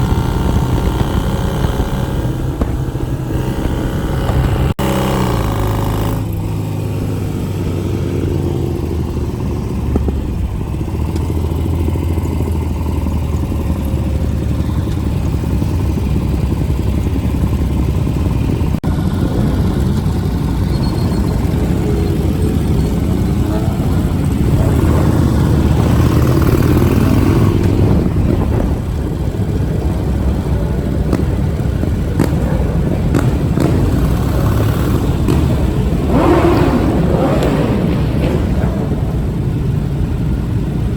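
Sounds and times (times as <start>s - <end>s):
motorcycle engine dropping in pitch: 0.0s - 40.9s
motorcycle engines rumbling: 0.0s - 40.9s.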